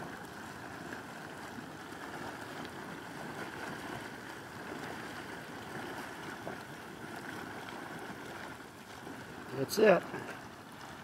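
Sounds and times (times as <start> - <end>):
mud pot bubbling: 0.0 - 11.0.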